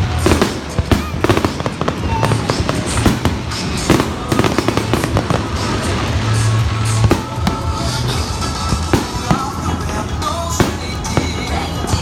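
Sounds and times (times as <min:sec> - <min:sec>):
fireworks bangs and crackles: 0:00.0 - 0:12.0
music with steady bass: 0:00.0 - 0:12.0.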